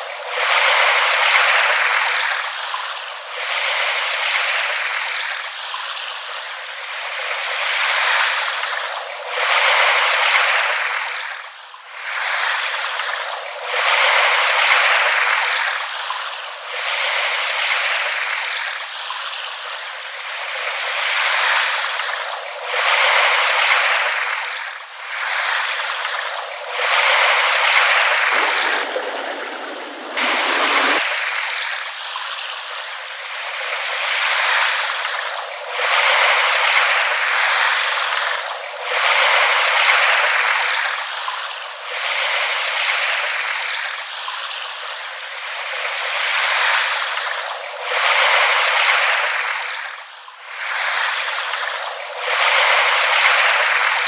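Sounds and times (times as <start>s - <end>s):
small waves lapping on shore: 0.0s - 54.0s.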